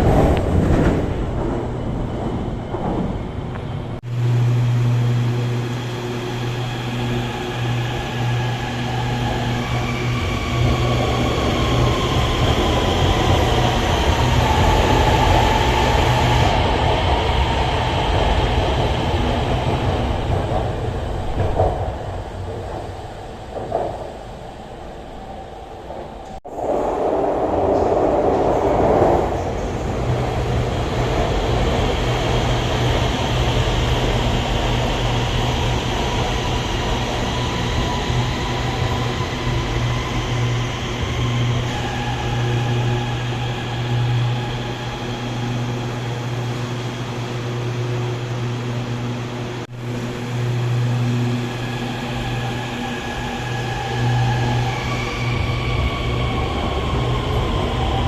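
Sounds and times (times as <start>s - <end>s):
train low hum: 0.0s - 58.0s.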